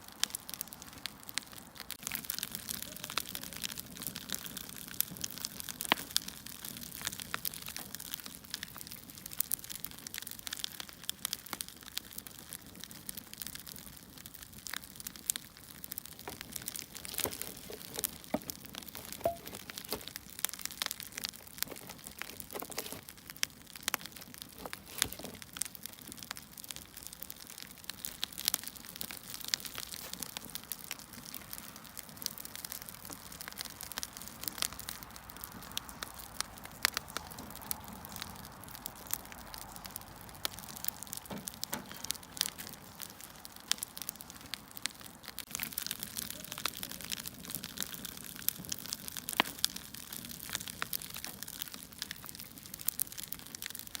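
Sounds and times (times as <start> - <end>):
firewood crackling: 0.0 - 54.0.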